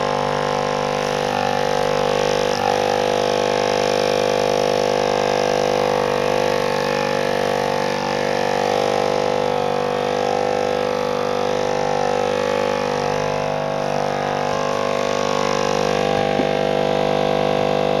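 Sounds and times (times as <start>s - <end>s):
massager motor buzzing hum: 0.0s - 18.0s.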